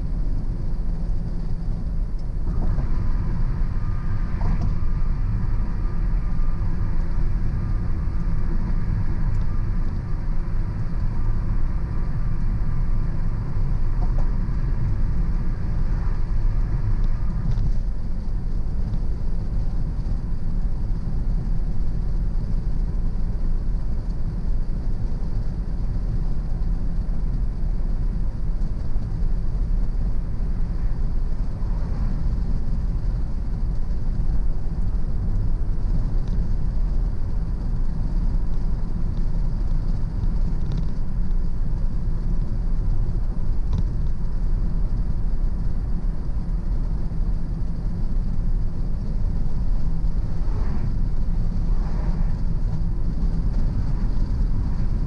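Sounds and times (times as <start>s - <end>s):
car engine rumble: 0.0s - 55.0s
tyre road noise: 0.0s - 55.0s.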